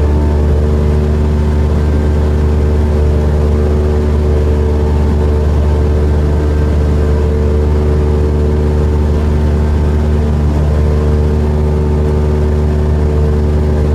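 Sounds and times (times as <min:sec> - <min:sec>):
airplane engine droning in cabin: 0:00.0 - 0:13.9.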